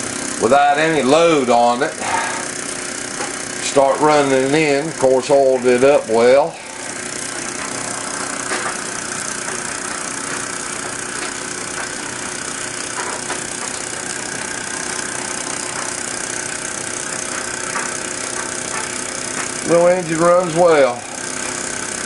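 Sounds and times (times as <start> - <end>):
steam engine hissing: 0.0 - 22.0.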